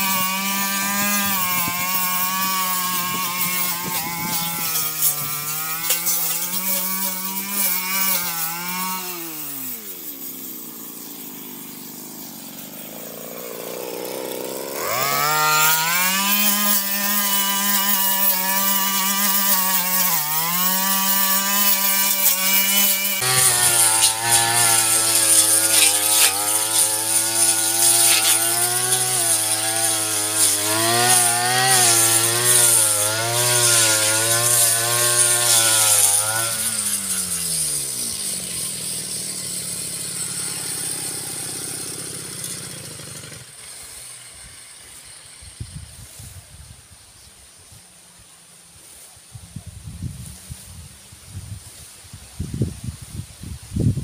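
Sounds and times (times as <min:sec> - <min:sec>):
brush cutter engine revving: 0:00.0 - 0:46.6.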